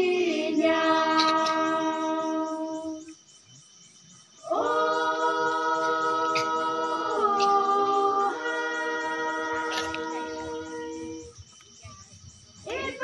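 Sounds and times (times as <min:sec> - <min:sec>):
women singing in harmony: 0:00.0 - 0:03.2, 0:04.4 - 0:11.3, 0:12.6 - 0:13.0.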